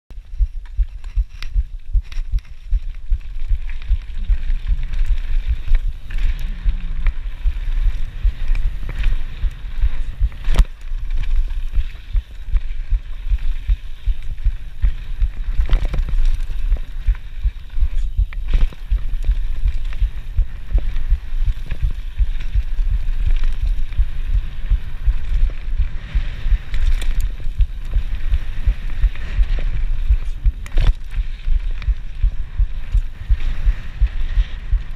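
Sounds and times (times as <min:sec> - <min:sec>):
bike clicks and rattles: 0:00.1 - 0:34.9
low thumping of wind and trail: 0:00.1 - 0:34.9.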